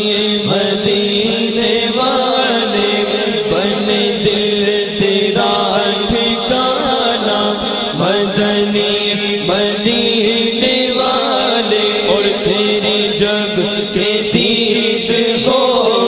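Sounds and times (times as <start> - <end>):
men chanting with held drone: 0.0 - 16.0.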